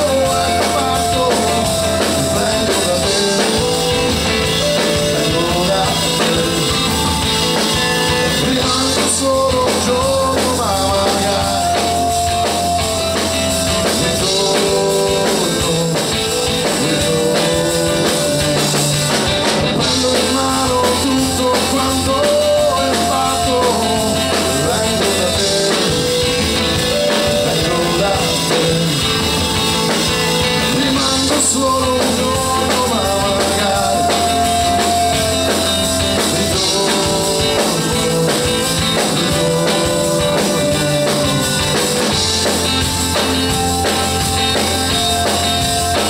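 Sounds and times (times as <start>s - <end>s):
man singing: 0.0s - 45.4s
drum kit: 0.0s - 46.0s
electric guitar: 0.0s - 46.0s.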